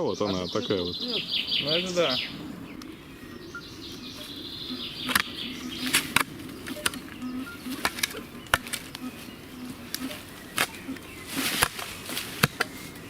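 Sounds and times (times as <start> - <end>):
faint birdsong: 0.0 - 13.0
buzzing insect: 0.6 - 13.0.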